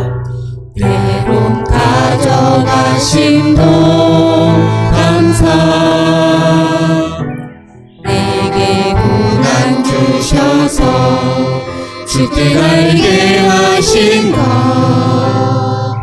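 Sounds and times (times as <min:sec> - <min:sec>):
worship band praise song: 0:00.0 - 0:16.0.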